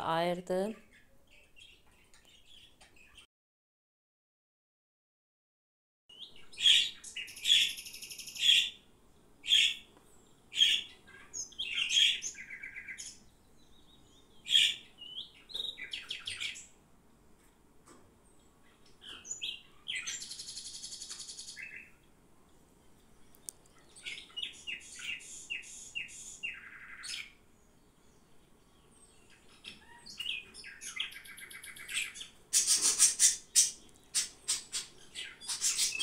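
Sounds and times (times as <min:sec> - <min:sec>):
small bird chirping: 0:00.8 - 0:03.3, 0:06.1 - 0:08.8, 0:09.4 - 0:16.8, 0:18.3 - 0:36.0.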